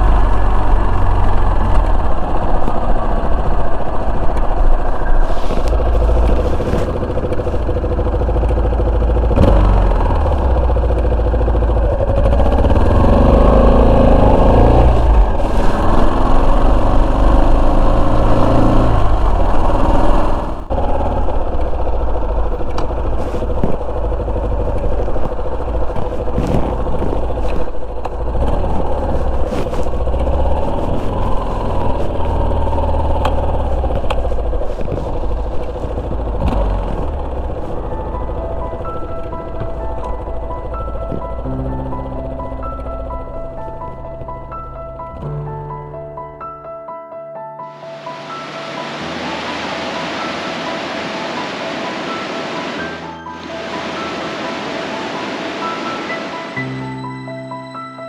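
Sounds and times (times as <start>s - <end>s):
motorcycle engine running: 0.0s - 46.1s, 47.7s - 56.6s.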